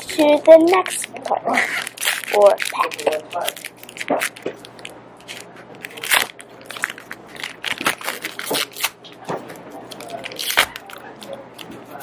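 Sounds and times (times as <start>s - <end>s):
foil wrapper crinkling: 0.0s - 9.0s, 9.8s - 12.0s.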